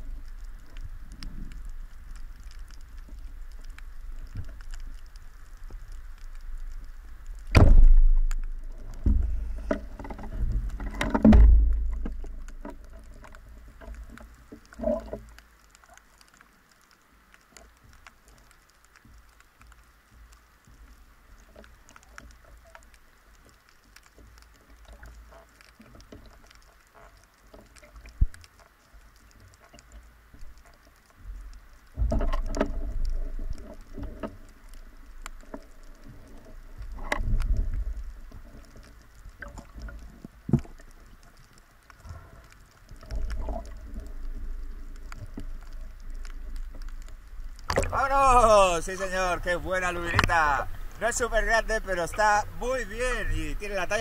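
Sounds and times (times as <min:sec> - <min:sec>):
faint underwater crackling: 0:00.0 - 0:54.0
water sloshing and bubbling: 0:00.0 - 0:54.0.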